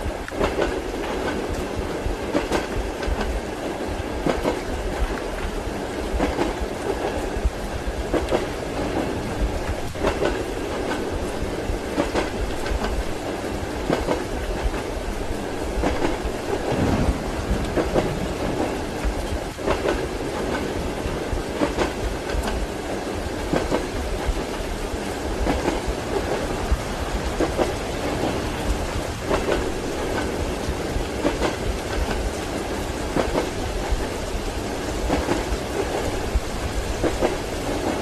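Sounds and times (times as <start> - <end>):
railway carriage rumble: 0.0 - 38.0
train wheels clattering: 0.0 - 38.0.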